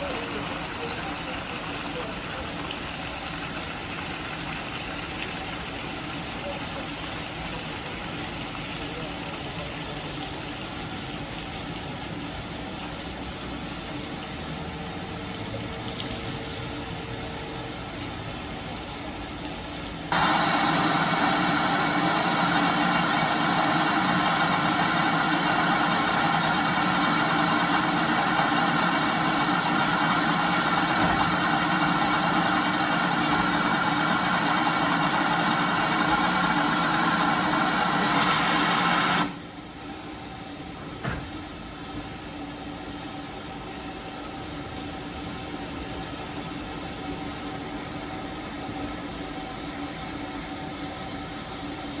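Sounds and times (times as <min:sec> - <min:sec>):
steam train running: 0:00.0 - 0:04.4, 0:05.9 - 0:52.0.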